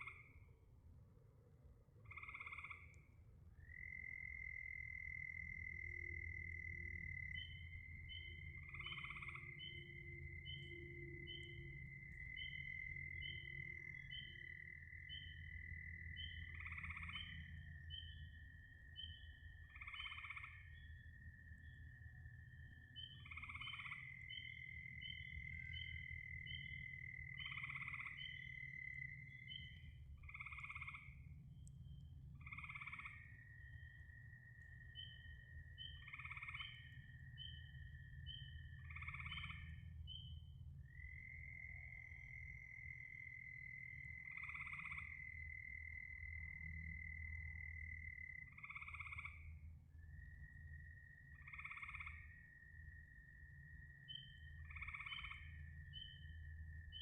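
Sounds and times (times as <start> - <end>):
frogs croaking: 0.0 - 1.0, 1.8 - 57.0
low steady hum: 0.0 - 57.0.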